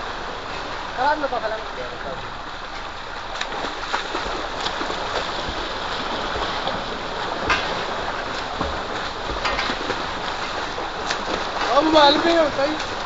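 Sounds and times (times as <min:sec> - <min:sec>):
people splashing in water: 0:02.0 - 0:13.0.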